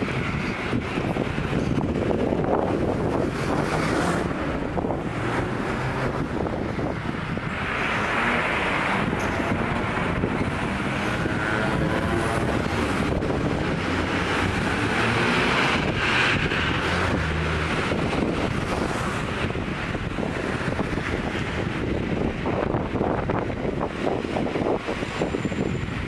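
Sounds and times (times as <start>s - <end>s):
cars driving past: 0.0s - 26.0s
wind noise on microphone: 0.0s - 26.0s.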